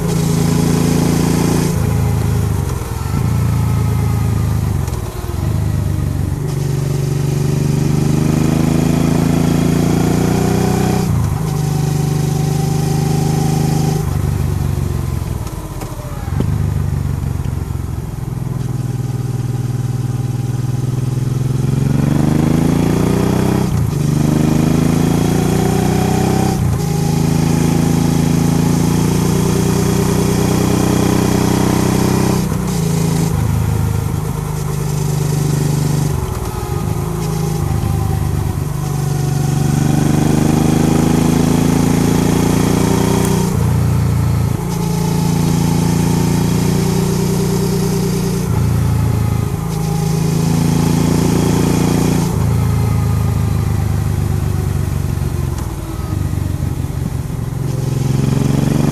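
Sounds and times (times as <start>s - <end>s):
motorcycle engine revving: 0.0s - 58.9s
wind and road noise: 0.0s - 58.9s.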